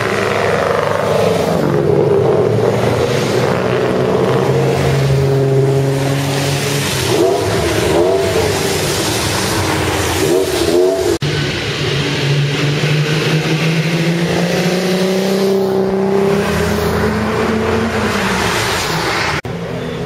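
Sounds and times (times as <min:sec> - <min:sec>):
car engine revving: 0:00.0 - 0:19.5
sports car engines passing: 0:00.0 - 0:20.0.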